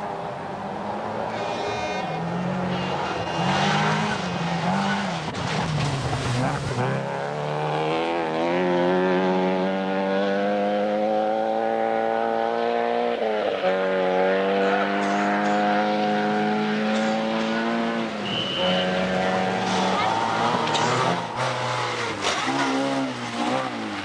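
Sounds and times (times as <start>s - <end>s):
rally car engine revving: 0.8s - 24.0s.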